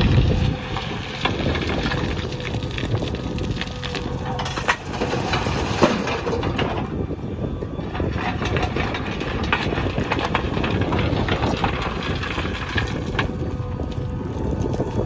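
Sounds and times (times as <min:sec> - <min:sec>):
diesel engine rumbling: 0:00.0 - 0:15.0
digging knocks and clatter: 0:00.0 - 0:15.0
wind on microphone: 0:00.0 - 0:15.0.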